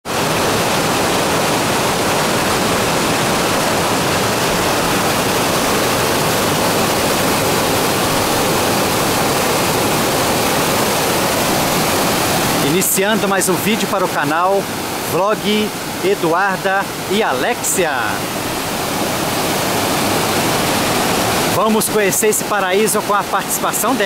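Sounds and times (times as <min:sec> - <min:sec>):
waterfall rushing over rocks: 0:00.1 - 0:24.0.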